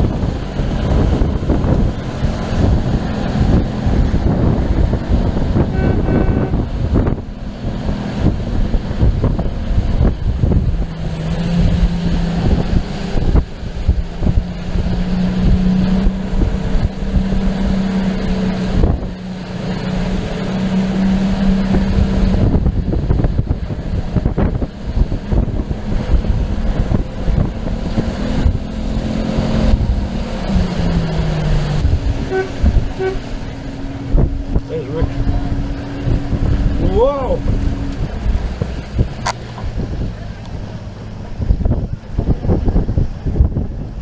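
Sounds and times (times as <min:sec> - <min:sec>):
knocks and water splashes: 0:00.0 - 0:43.6
motorboat engine running: 0:00.0 - 0:44.0
wind buffeting microphone: 0:00.0 - 0:44.0.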